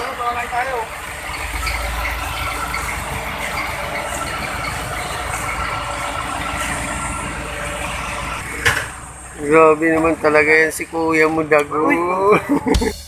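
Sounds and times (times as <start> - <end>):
traffic: 0.0 - 13.0.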